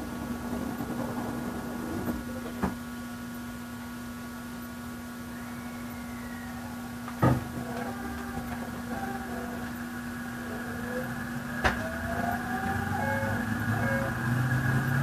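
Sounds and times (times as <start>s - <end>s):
train electrical hum: 0.0s - 15.0s.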